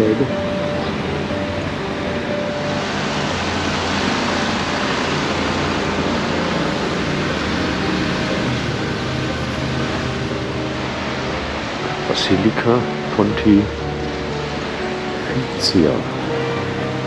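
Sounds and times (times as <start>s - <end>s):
steady outdoor rushing noise: 0.0s - 17.0s.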